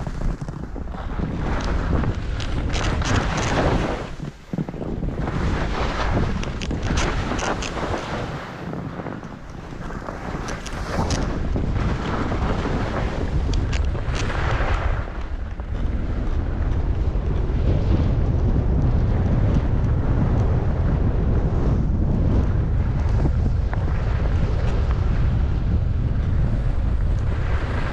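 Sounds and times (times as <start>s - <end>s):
skis scraping over snow: 0.0s - 27.9s
wind buffeting microphone: 0.0s - 27.9s.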